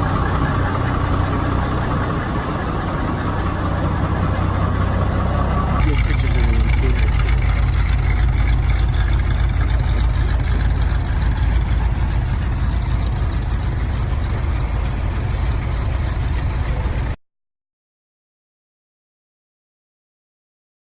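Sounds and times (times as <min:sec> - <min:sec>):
vehicle engine idling: 0:00.0 - 0:17.2.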